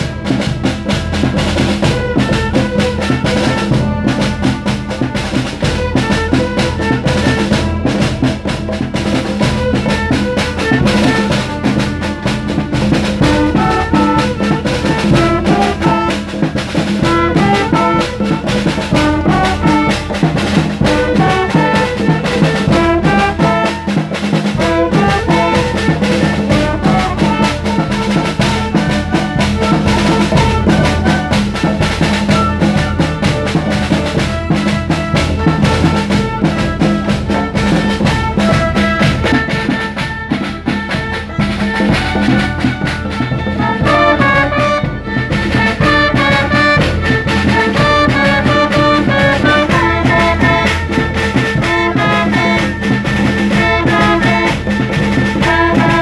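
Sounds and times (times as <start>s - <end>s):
brass: 0.0s - 56.0s
orchestra playing: 0.0s - 56.0s.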